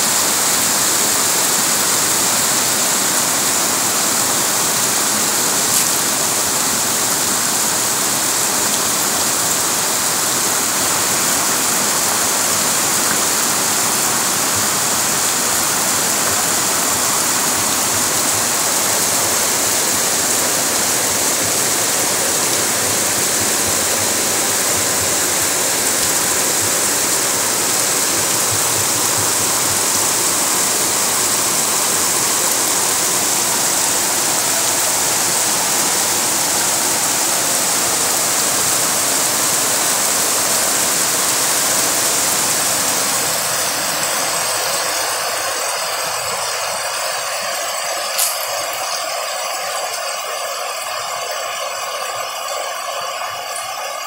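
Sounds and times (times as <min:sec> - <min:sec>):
heavy rain and floodwater rushing: 0:00.0 - 0:54.0.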